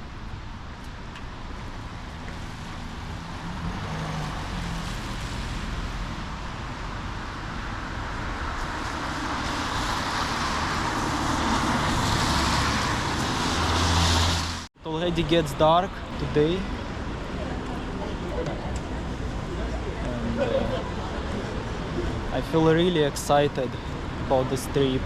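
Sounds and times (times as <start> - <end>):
vehicle approaching: 3.1 - 25.0.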